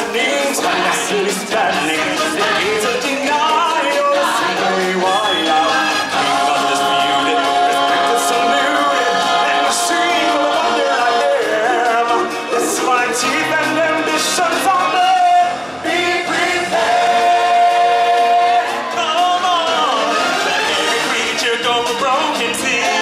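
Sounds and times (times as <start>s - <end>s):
chorus singing: 0.0s - 23.0s
musical theatre song with backing track: 0.0s - 23.0s.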